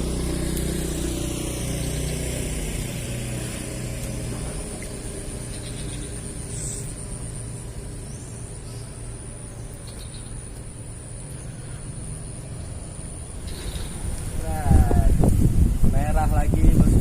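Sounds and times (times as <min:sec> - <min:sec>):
background hum: 0:00.0 - 0:17.0
vehicle engine running: 0:00.0 - 0:17.0.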